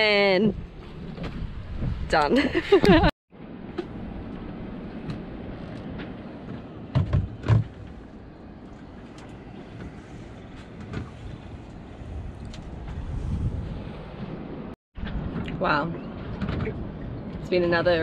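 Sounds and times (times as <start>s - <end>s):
water noise: 0.0s - 18.0s
wind: 0.0s - 18.0s.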